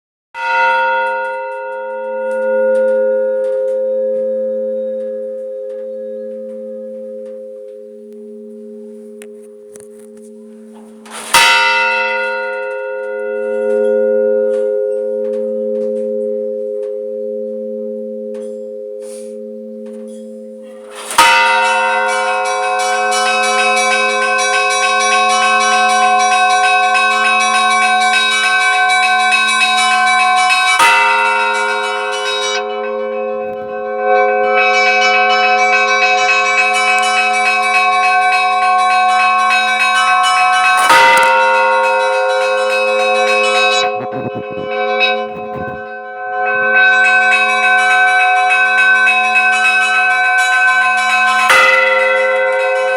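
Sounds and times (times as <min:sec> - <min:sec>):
large church bell ringing: 0:00.4 - 0:52.9
smaller bells pealing: 0:00.4 - 0:52.9.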